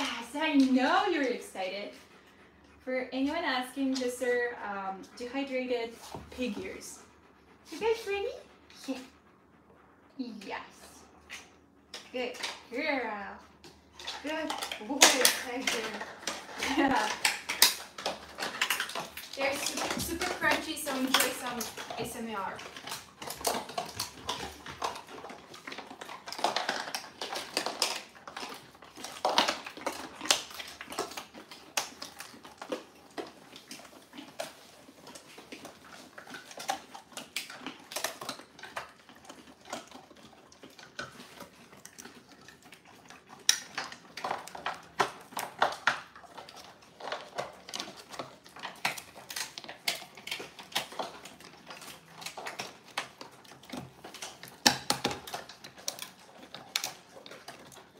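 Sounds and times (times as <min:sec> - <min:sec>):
dogs crunching dried chews: 0:00.0 - 0:09.5, 0:10.6 - 0:57.9.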